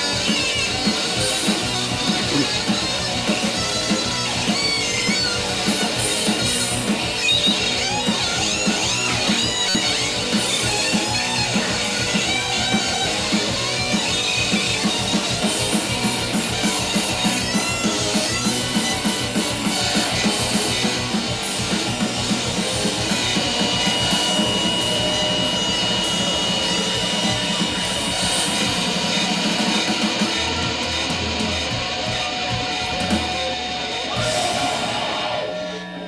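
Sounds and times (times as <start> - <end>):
rock music on drums and guitar: 0.0 - 36.0.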